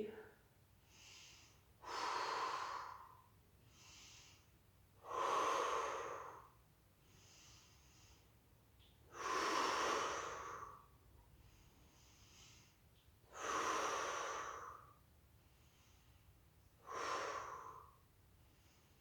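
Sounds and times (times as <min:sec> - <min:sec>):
woman breathing through nose: 0:00.9 - 0:08.4, 0:09.1 - 0:19.0.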